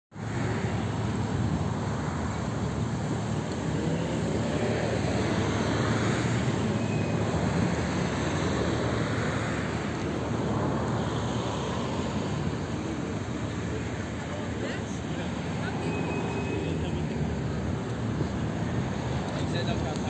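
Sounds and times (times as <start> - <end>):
low rumble of engines: 0.1 - 20.0.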